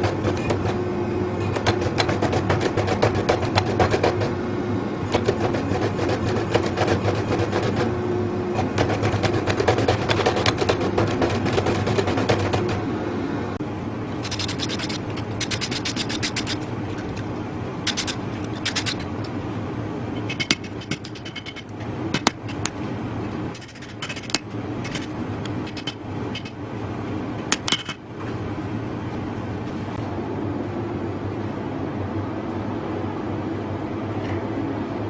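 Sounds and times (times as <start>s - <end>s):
hum of forging equipment: 0.0s - 28.4s.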